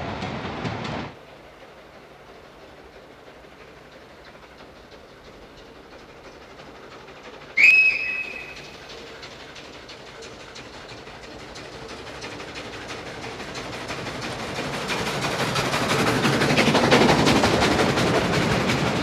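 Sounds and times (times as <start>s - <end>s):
steam train passing: 0.0s - 19.0s
wheels clattering on track: 0.0s - 19.0s.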